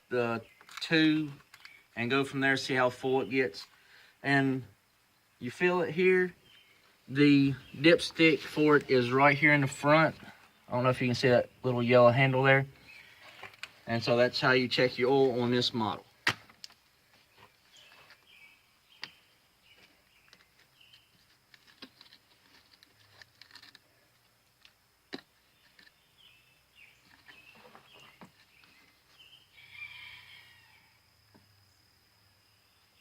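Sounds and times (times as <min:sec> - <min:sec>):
small birds chirping: 0:00.0 - 0:16.2, 0:16.8 - 0:33.0.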